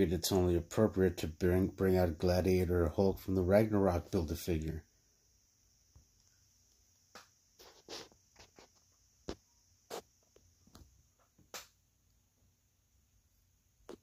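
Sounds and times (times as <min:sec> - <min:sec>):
faint high hiss: 0:00.0 - 0:14.0.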